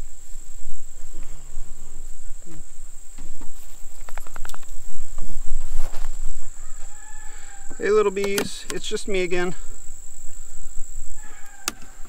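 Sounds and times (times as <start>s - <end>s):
handling noise: 0.0s - 10.4s
high-pitched insect drone: 0.0s - 12.0s.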